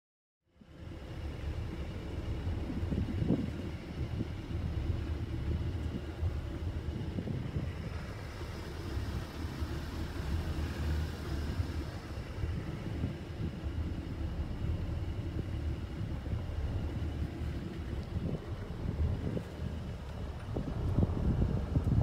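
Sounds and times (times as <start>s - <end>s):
wind buffeting microphone: 0.9s - 22.0s.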